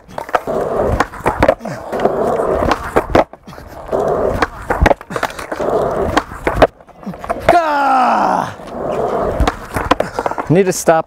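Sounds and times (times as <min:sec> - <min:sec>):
skateboard clacking on ground: 0:00.0 - 0:11.0
skateboard wheels rolling on pavement: 0:00.0 - 0:11.0.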